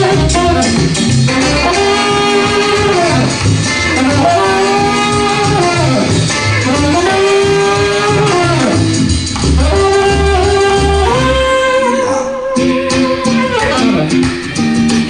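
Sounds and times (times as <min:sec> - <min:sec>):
saxophone slow melody: 0:00.0 - 0:14.2
backing track with bass and guitar: 0:00.0 - 0:15.0.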